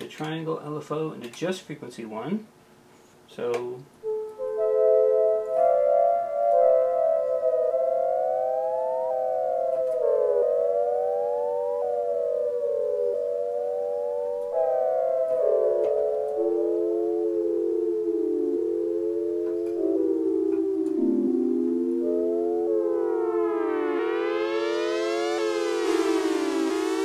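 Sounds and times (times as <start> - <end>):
synthesizer playing held chords: 4.0 - 27.0
slow pitch sweep: 4.1 - 27.0.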